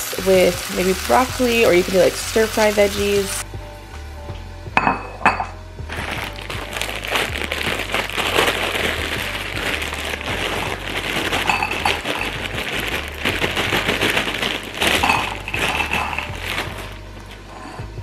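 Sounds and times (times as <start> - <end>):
frozen florets clattering into bowl: 0.0 - 3.3, 5.9 - 17.8
plastic bag crinkling: 0.0 - 3.4, 5.9 - 17.8.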